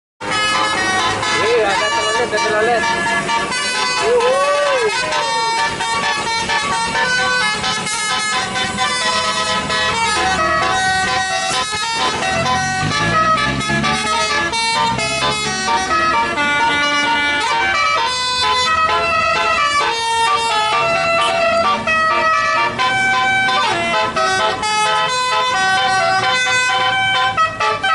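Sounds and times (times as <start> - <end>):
bus horn playing a tune: 0.2 - 27.9.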